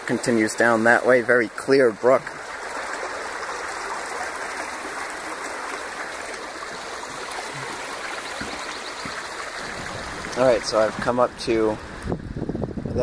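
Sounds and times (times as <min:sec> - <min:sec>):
brook babbling: 0:00.0 - 0:12.4.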